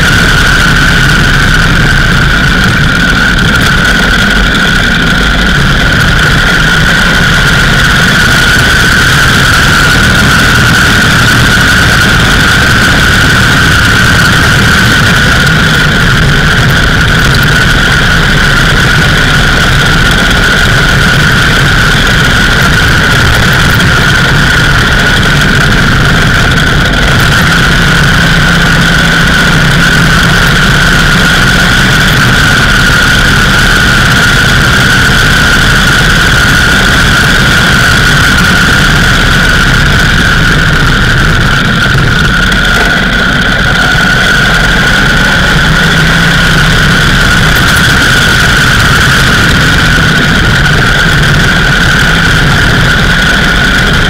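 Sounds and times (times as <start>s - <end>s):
high whine: 0.0s - 54.0s
motorcycle engine running: 0.0s - 54.0s
road and wind rush: 0.0s - 54.0s.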